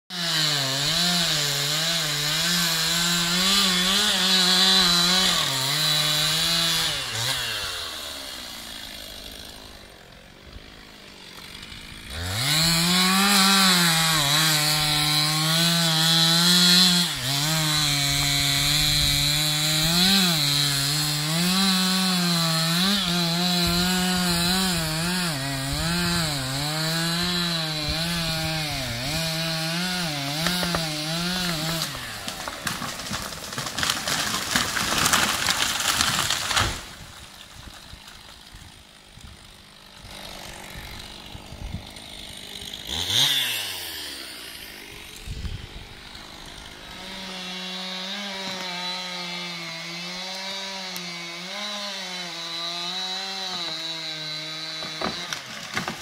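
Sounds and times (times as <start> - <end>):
chainsaw cutting wood: 0.1 - 56.0.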